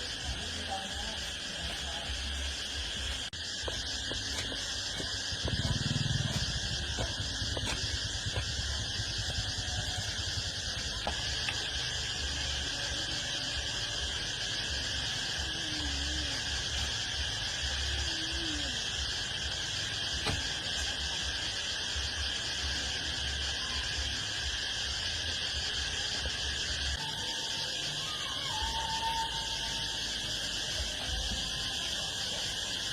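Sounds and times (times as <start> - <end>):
insect chorus: 0.0 - 32.9.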